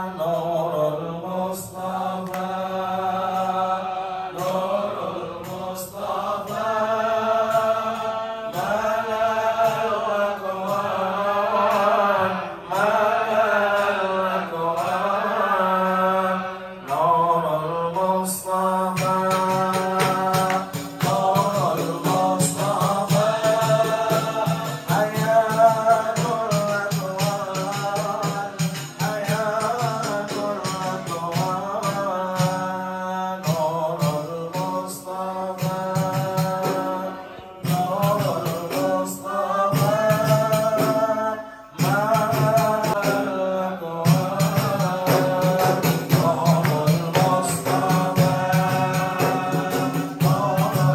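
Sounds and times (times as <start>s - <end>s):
men singing a devotional chant: 0.0s - 50.9s
hand percussion beat: 1.3s - 16.2s, 16.8s - 50.9s.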